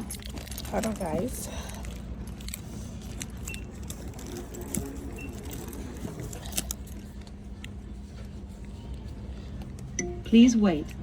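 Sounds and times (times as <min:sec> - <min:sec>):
low store hum: 0:00.0 - 0:11.0.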